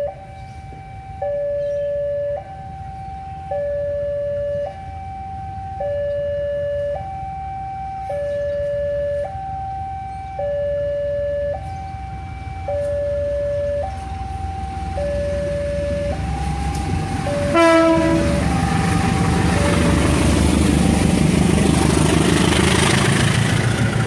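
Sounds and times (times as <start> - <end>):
two-tone crossing alarm: 0.0 - 21.2.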